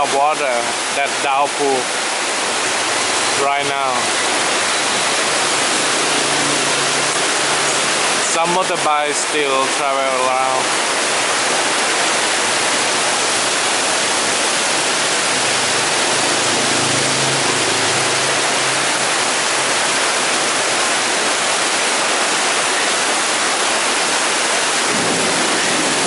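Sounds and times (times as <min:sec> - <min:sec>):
heavy rain pouring: 0:00.0 - 0:26.0
running water: 0:00.0 - 0:26.0.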